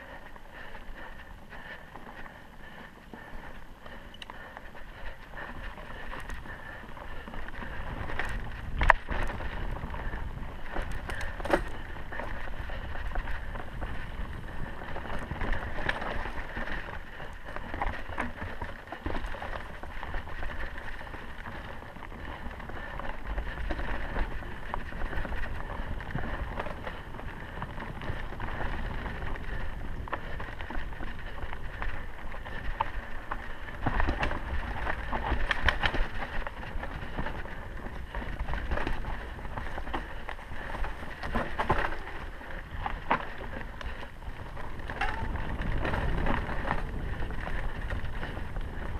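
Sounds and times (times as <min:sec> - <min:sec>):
bike tyres on dirt: 0:00.0 - 0:48.9
bike knocks and rattles: 0:05.5 - 0:48.9.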